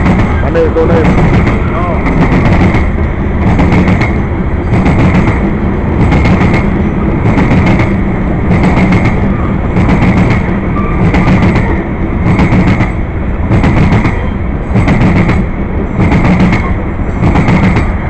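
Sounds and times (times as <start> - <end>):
freight train rumbling past: 0.0 - 18.0
train wheel clicks on rail: 0.0 - 18.0.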